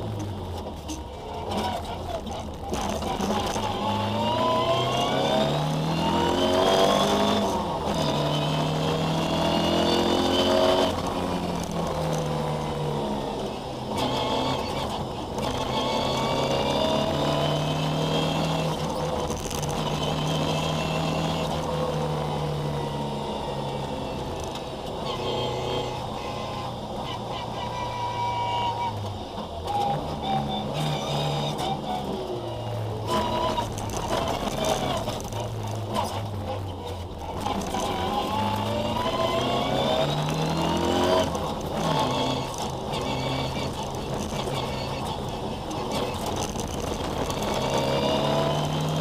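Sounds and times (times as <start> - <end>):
rally car engine revving: 0.0 - 49.0.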